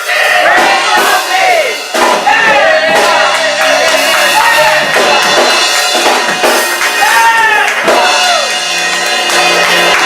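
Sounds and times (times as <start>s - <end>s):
drum kit: 0.0s - 10.0s
gospel music: 0.0s - 10.0s.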